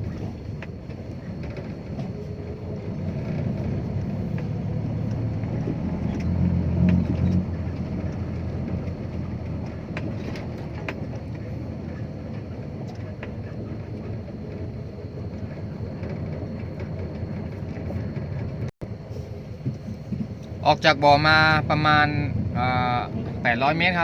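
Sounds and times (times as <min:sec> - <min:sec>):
diesel truck engine rumble: 0:00.0 - 0:24.0.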